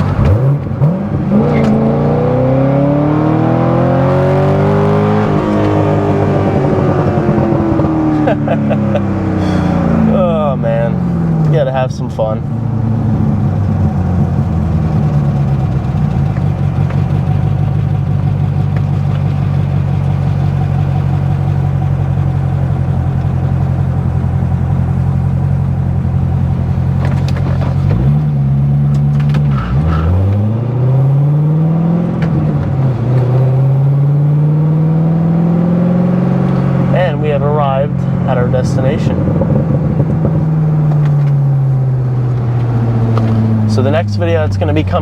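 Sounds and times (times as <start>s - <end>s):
car accelerating through gear change: 0.0s - 45.0s
car engine cruising: 0.0s - 45.0s.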